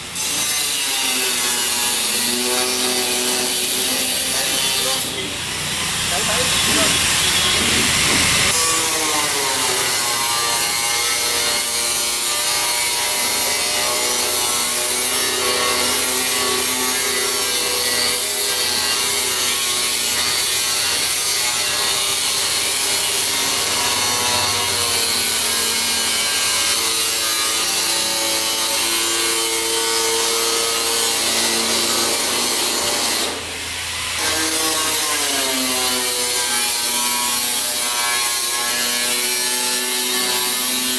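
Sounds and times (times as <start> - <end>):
power tool cutting steel plate: 0.0 - 40.9.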